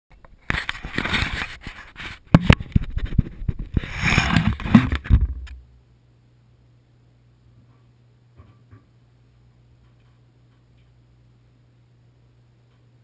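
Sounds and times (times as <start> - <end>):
faint steady hum: 0.1 - 13.0.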